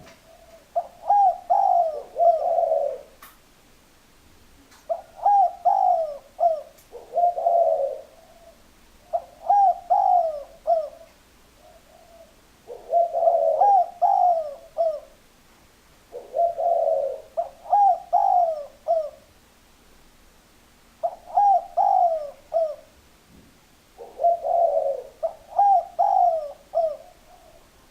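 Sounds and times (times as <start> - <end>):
dove cooing: 0.0 - 3.2, 4.9 - 15.2, 16.1 - 19.3, 21.0 - 23.0, 24.0 - 27.9.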